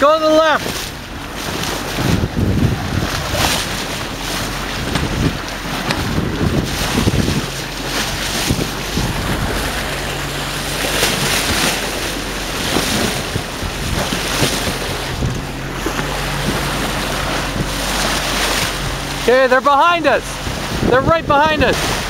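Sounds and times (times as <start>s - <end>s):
low steady hum: 0.0s - 22.0s
water rushing along boat hull: 0.0s - 22.0s
wind buffeting microphone: 0.0s - 22.0s.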